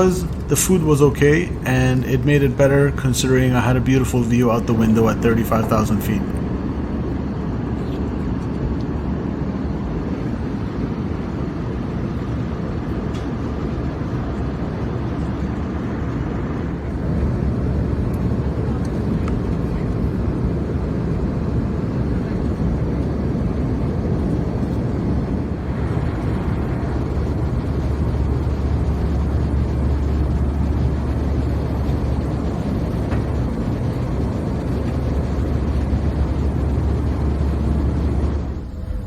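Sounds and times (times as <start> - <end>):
low hum: 0.0 - 12.4, 14.1 - 39.0
airplane cabin noise: 0.0 - 39.0.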